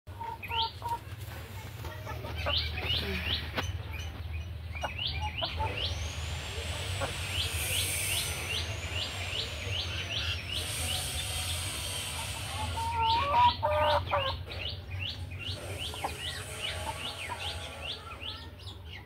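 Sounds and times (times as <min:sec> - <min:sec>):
bird chirping: 0:02.3 - 0:19.0.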